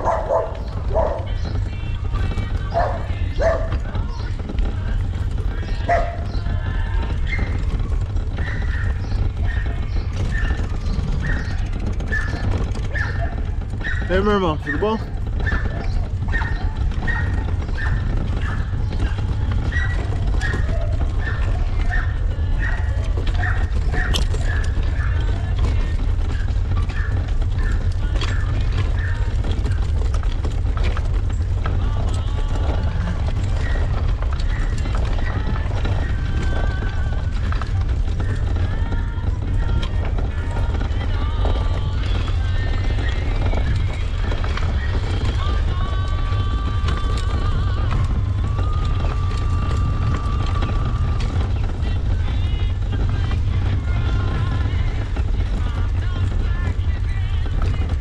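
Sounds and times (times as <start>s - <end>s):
bike frame and chain rattling: 0.0s - 58.0s
handcycle rolling on pavement: 0.0s - 58.0s
wheels rumbling on cobblestones: 0.0s - 58.0s.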